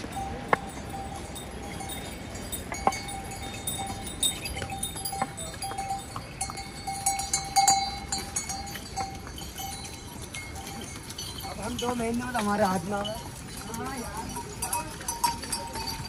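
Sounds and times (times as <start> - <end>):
harness bells jingling: 0.0 - 16.0
hooves knocking on stone: 0.0 - 16.0.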